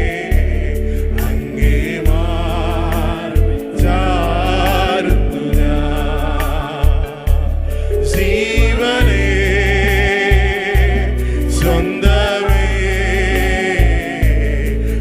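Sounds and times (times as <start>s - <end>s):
band with heavy bass and drums: 0.0s - 15.0s
voices singing worship song: 0.0s - 15.0s.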